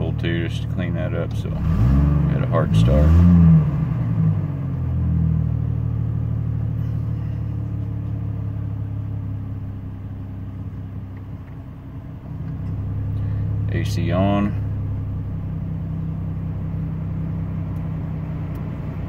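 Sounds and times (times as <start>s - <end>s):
engine idling: 0.0s - 1.6s, 3.7s - 19.0s.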